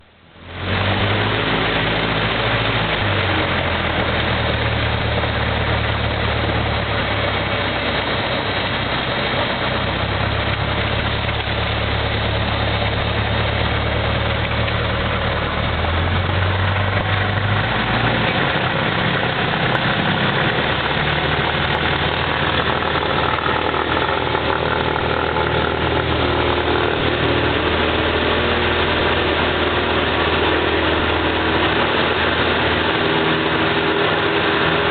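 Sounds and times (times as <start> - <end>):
airplane propeller engine droning: 0.0 - 34.9.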